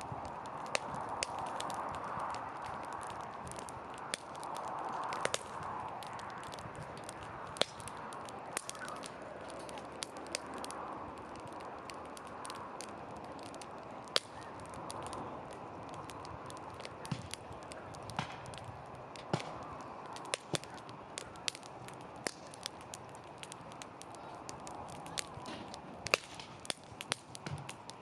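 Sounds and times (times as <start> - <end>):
burning wood popping and crackling: 0.0 - 28.0
rush of campfire flame: 0.0 - 28.0.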